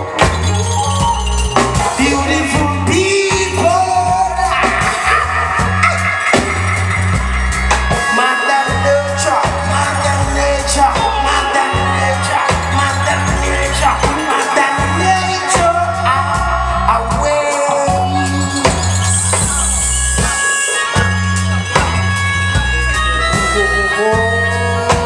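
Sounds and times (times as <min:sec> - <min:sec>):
drum kit: 0:00.0 - 0:25.0
electric bass line: 0:00.0 - 0:25.0
guitars: 0:00.0 - 0:25.0
person singing: 0:00.0 - 0:25.0.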